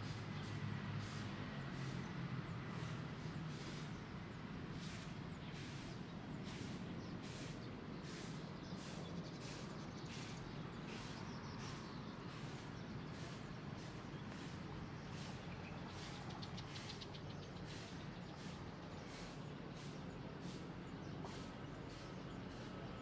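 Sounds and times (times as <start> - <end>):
distant traffic hum: 0.0 - 23.0.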